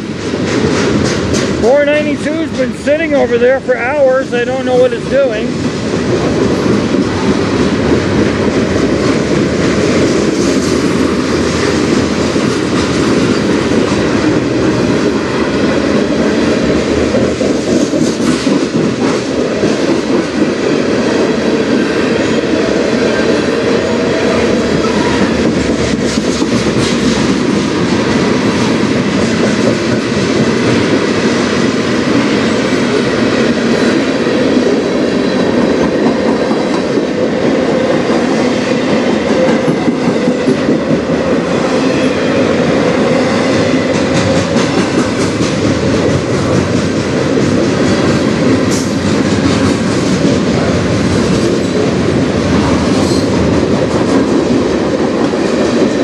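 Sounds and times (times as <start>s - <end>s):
train cars rolling on rails: 0.0s - 56.0s.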